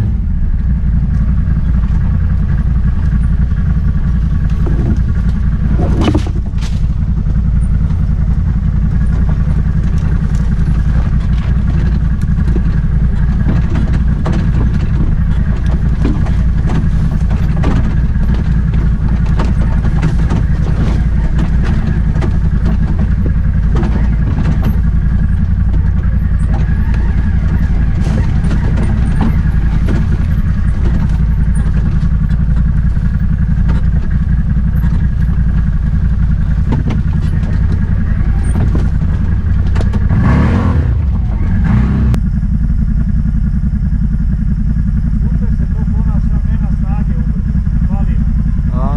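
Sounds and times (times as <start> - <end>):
steady whine: 0.0 - 48.9
vehicle engine running: 0.0 - 48.9
knocks and clatter: 0.9 - 42.2.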